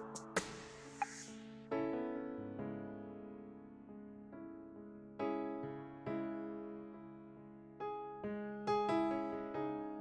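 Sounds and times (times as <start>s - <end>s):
slow piano-like keyboard music: 0.0s - 10.0s.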